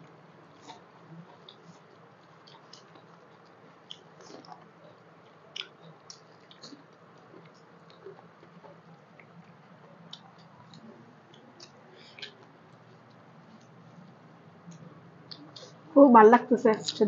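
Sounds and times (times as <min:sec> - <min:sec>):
hands squishing food: 0:00.6 - 0:14.6
eating clicks and smacks: 0:00.6 - 0:15.8.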